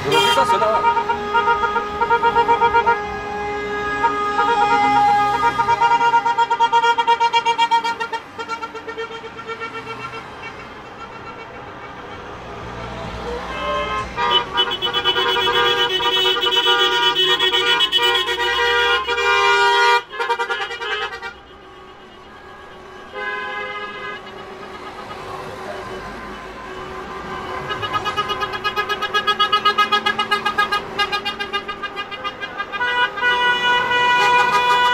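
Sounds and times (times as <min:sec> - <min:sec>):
car horns honking: 0:00.0 - 0:34.9
cars passing: 0:00.0 - 0:34.9.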